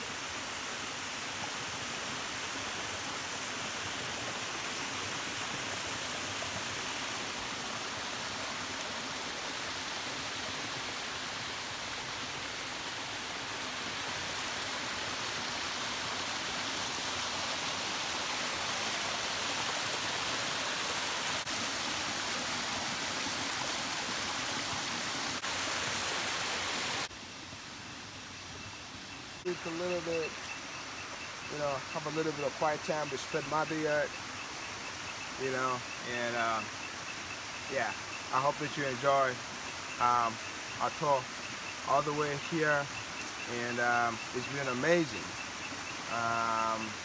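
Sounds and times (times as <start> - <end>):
creek cascading over rocks: 0.0 - 27.3, 29.4 - 47.0.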